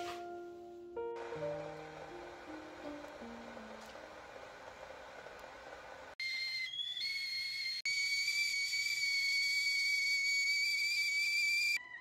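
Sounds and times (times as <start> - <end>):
kettle whistling: 1.5 - 11.8.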